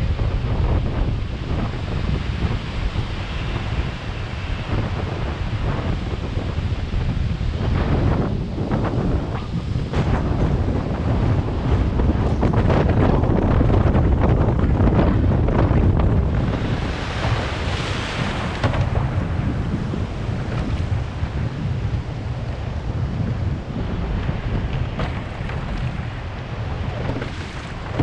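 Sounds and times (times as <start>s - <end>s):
surf washing on beach: 0.0s - 28.0s
wind buffeting microphone: 0.0s - 28.0s.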